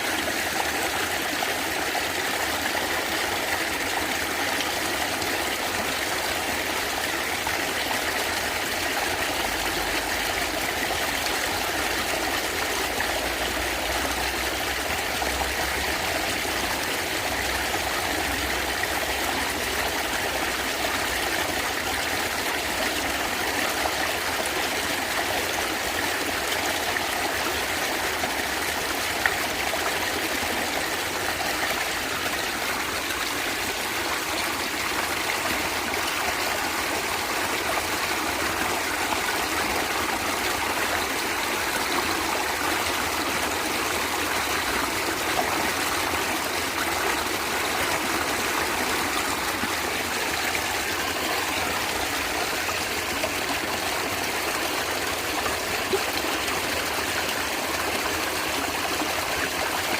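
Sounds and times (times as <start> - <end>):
stream water flowing and gurgling: 0.0 - 59.9.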